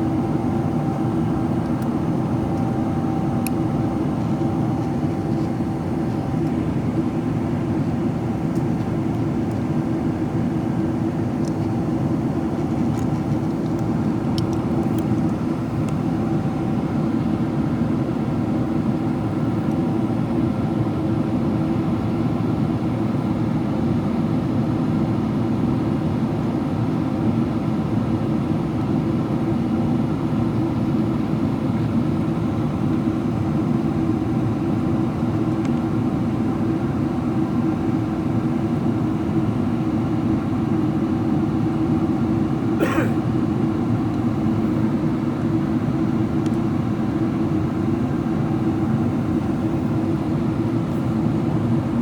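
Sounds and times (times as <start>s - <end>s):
jet engine hum: 0.0s - 24.4s, 28.1s - 52.0s.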